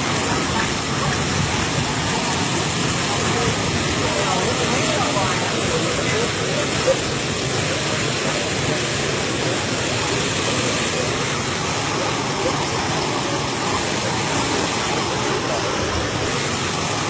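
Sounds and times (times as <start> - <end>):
water jet splashing onto earth: 0.0 - 17.0.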